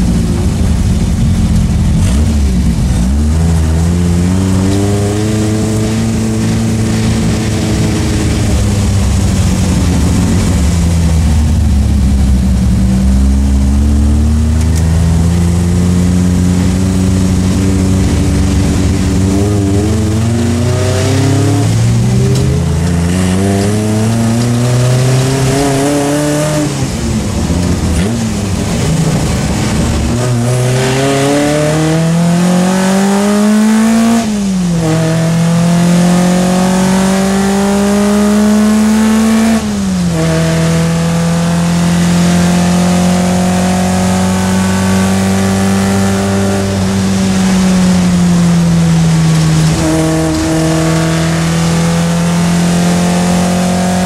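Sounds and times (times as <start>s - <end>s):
racing car engine revving: 0.0s - 54.0s.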